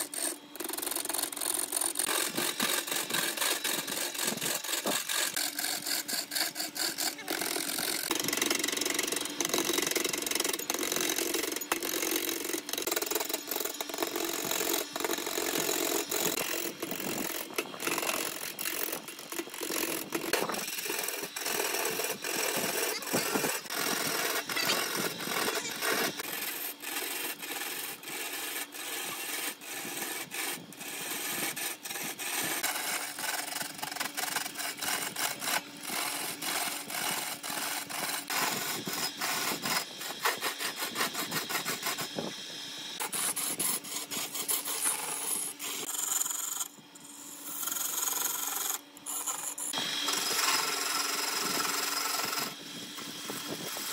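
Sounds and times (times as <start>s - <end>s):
lathe tool scraping wood: 0.0s - 53.9s.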